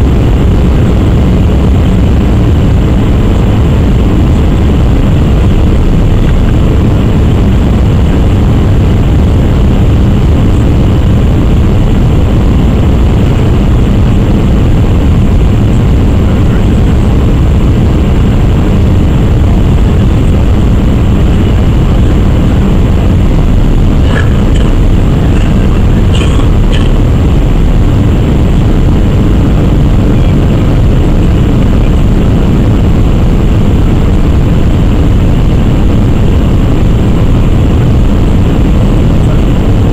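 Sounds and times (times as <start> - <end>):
aircraft cabin engine rush: 0.0 - 39.9.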